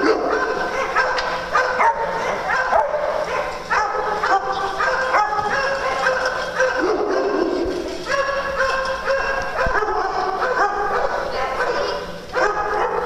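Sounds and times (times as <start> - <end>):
small dogs barking and yapping: 0.0 - 13.0.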